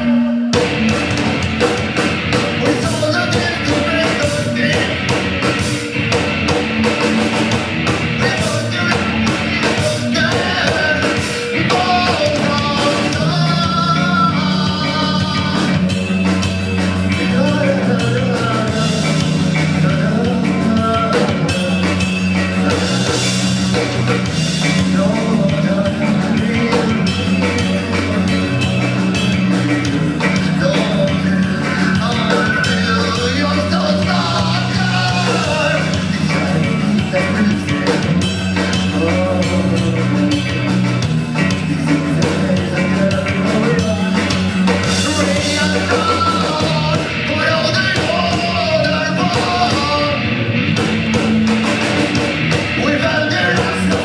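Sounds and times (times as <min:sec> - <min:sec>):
bass guitar: 0:00.0 - 0:54.0
distorted electric guitars: 0:00.0 - 0:54.0
drum kit: 0:00.0 - 0:54.0
person singing: 0:02.3 - 0:05.9, 0:08.1 - 0:50.4, 0:52.6 - 0:54.0.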